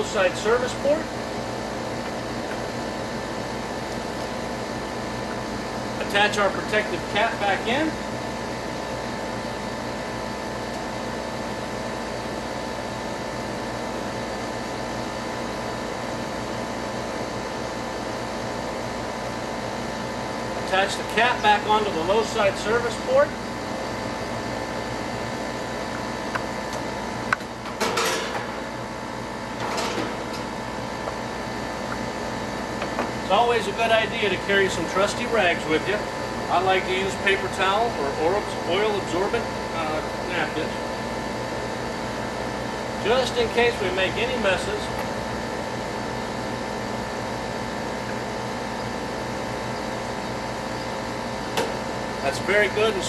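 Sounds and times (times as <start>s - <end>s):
air conditioner unit humming: 0.0s - 53.0s.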